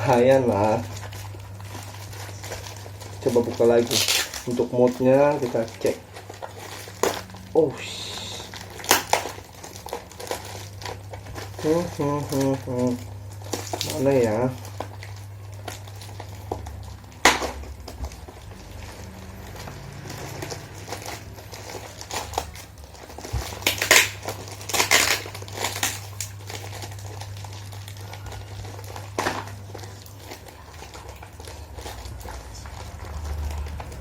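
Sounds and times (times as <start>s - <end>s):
low steady hum: 0.0s - 34.0s
packaging crinkling: 0.0s - 34.0s.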